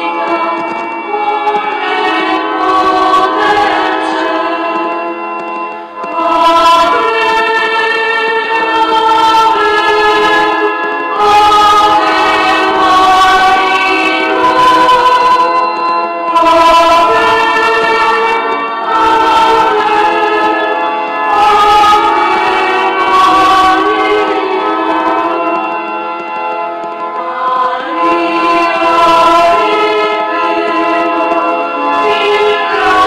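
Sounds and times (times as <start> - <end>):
organ playing slow chords: 0.0 - 33.0.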